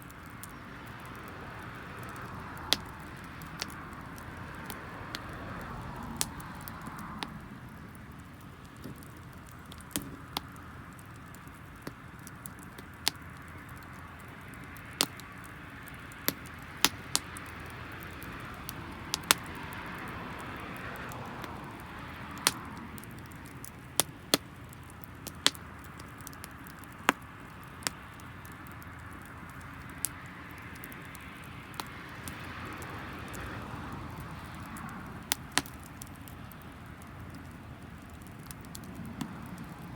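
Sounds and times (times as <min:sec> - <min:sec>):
firewood popping and snapping: 0:00.0 - 0:39.9
hiss of campfire flames: 0:00.0 - 0:39.9.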